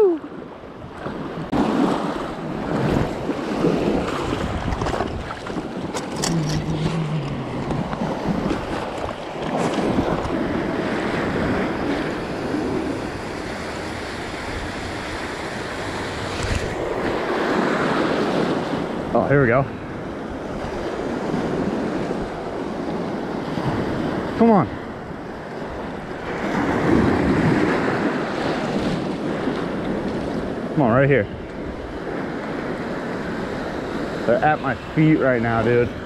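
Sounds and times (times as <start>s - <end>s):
wind buffeting microphone: 0.0s - 36.0s
small surf washing in: 0.9s - 36.0s.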